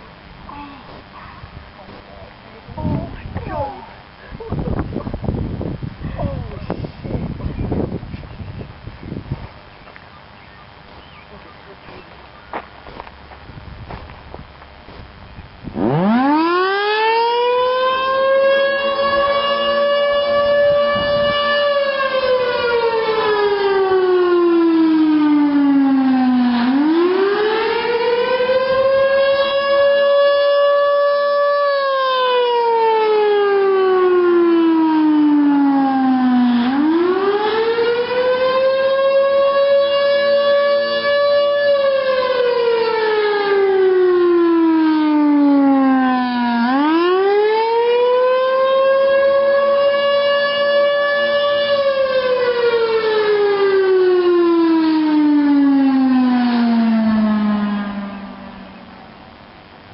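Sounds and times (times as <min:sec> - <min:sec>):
warning siren wailing: 0:02.6 - 0:59.9.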